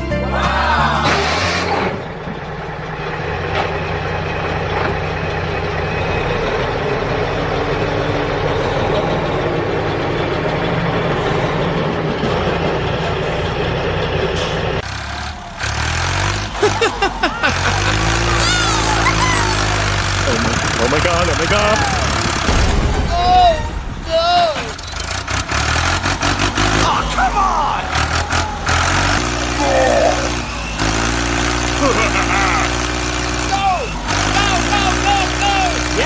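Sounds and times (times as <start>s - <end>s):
tractor engine rumbling: 0.0s - 36.0s.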